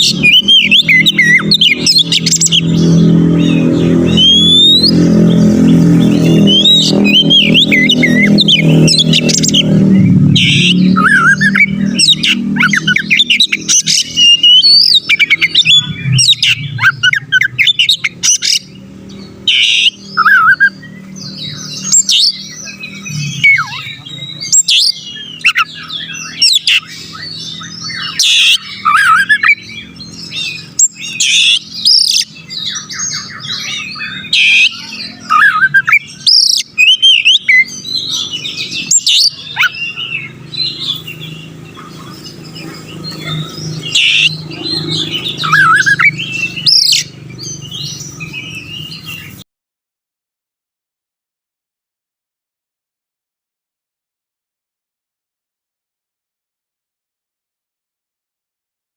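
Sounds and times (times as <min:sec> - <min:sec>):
songbird singing: 0:00.0 - 0:49.5.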